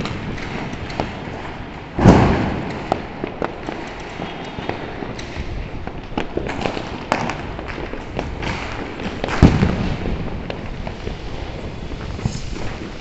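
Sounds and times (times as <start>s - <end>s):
deep firework boom: 0.0s - 12.8s
fireworks popping and cracking: 0.0s - 13.0s.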